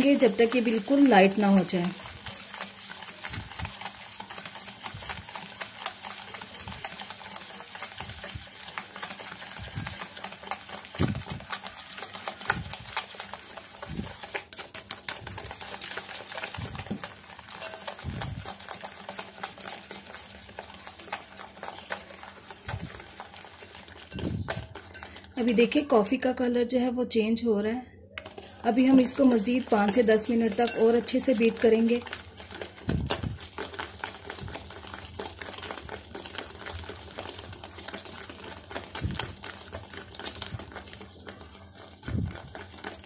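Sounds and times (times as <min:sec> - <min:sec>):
whisk clattering against glass: 0:00.0 - 0:25.8, 0:28.2 - 0:43.0.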